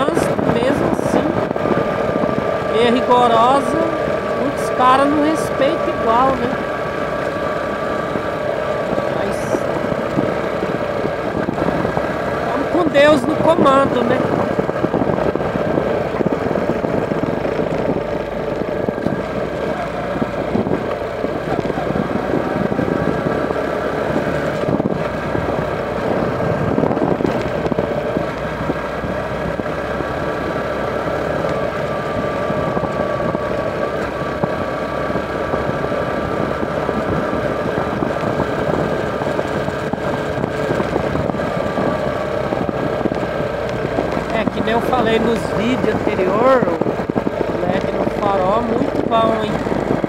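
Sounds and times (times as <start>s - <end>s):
motorcycle engine running: 0.0s - 50.0s
wind and road noise: 0.0s - 50.0s.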